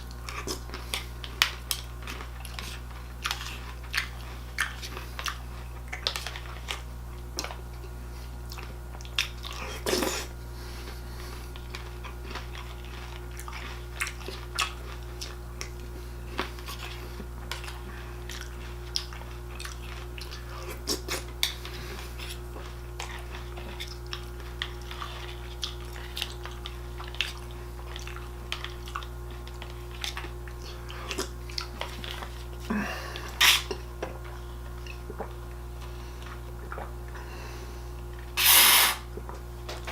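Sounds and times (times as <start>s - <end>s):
cereal being chewed: 0.0s - 37.2s.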